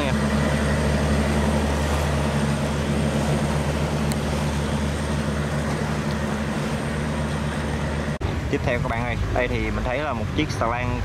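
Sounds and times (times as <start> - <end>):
boat engine running: 0.0 - 11.0
water churning: 0.0 - 11.0.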